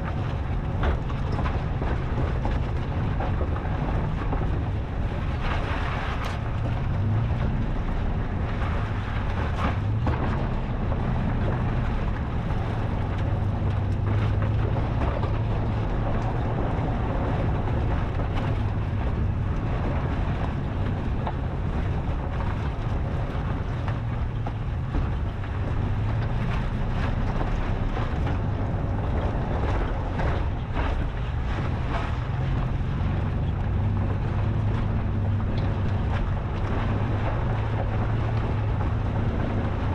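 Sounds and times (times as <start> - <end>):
car engine running: 0.0 - 39.9
wind noise on microphone: 0.0 - 39.9.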